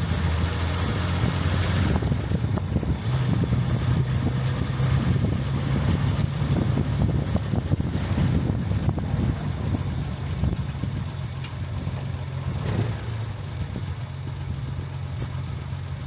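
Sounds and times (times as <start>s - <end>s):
wind noise on microphone: 0.0s - 14.0s
car engine running: 0.0s - 16.0s.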